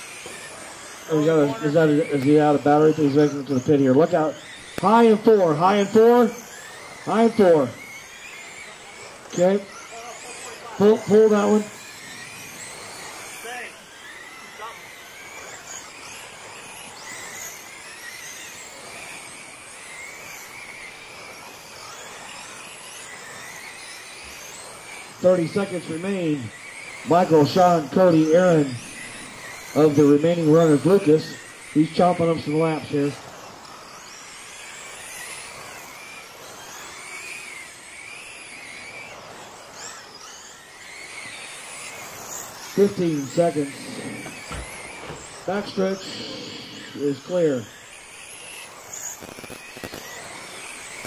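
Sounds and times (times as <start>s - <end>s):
rc truck motors whining: 0.0s - 51.0s.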